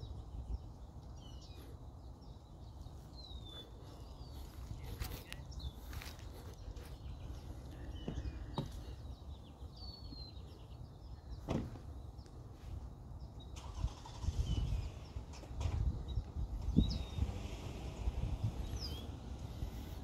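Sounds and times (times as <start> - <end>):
bird chirps: 0.0 - 12.5, 13.1 - 19.3
steady low rumble: 0.0 - 20.0.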